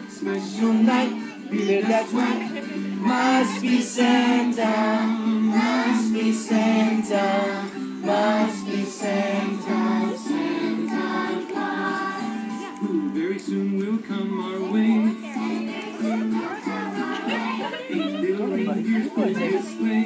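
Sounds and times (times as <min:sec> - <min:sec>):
children singing: 0:00.0 - 0:20.0
music accompaniment: 0:00.0 - 0:20.0.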